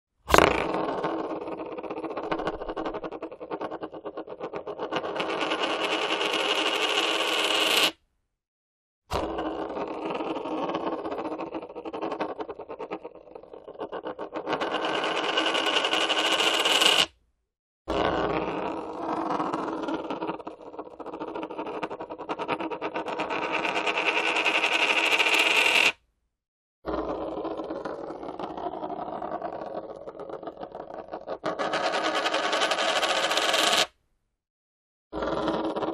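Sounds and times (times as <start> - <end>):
coin spinning on hard surface: 0.3 - 8.0, 9.1 - 17.2, 17.9 - 26.0, 26.9 - 34.0, 35.2 - 35.9.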